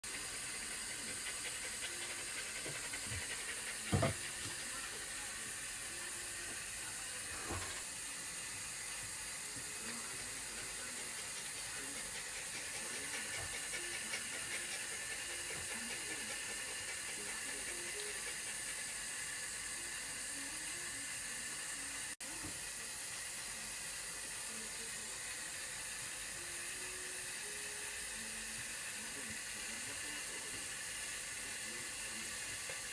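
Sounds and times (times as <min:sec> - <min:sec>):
running water hissing: 0:00.1 - 0:32.9.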